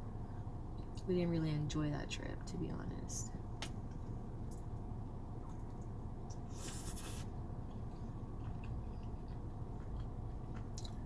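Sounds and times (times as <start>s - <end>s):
car engine and ventilation hum: 0.0s - 11.0s.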